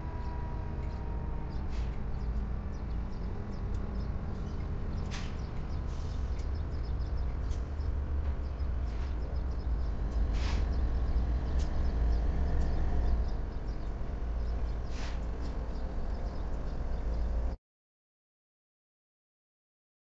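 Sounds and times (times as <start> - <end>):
freight train rumbling: 0.0 - 17.6.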